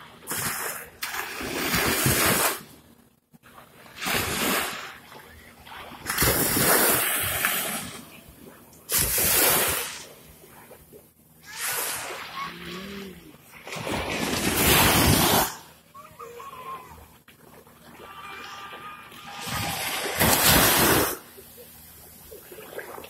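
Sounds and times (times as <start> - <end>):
small waves washing up shore: 0.2 - 2.8, 3.4 - 23.0.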